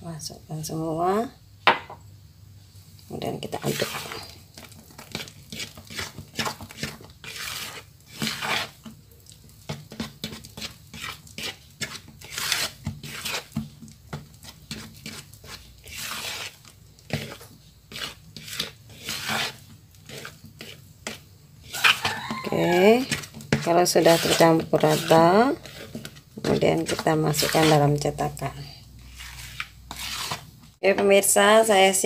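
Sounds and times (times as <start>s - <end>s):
spatula scraping batter in bowl: 3.2s - 30.8s.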